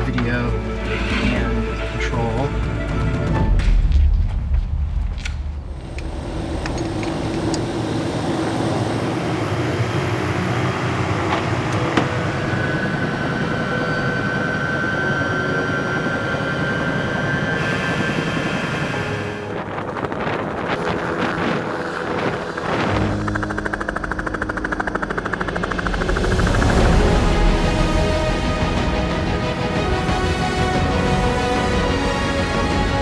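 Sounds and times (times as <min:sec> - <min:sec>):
thin steady whine: 0:05.6 - 0:33.0
helicopter engine and rotor: 0:05.7 - 0:33.0.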